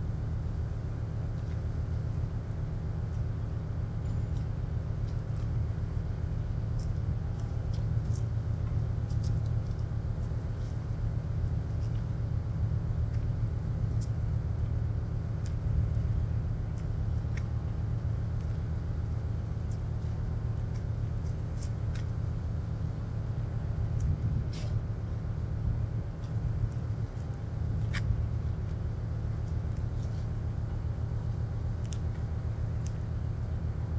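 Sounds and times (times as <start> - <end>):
low motor rumble: 0.0 - 33.9.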